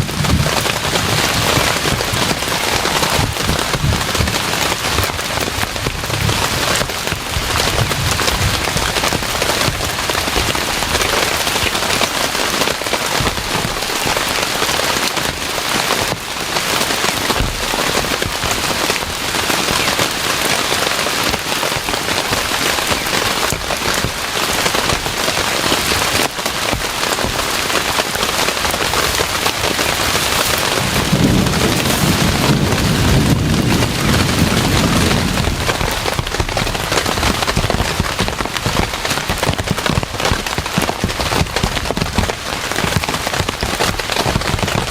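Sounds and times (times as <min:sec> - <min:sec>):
heavy rain falling: 0:00.0 - 0:44.9
thunder rumbling: 0:00.0 - 0:44.9.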